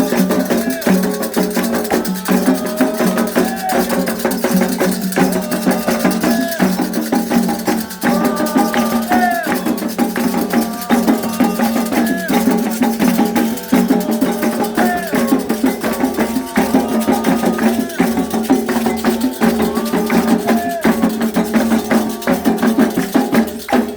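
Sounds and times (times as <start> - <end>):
shaken rattles: 0.0 - 23.9
struck percussion: 0.0 - 23.9
voices singing: 0.0 - 23.9.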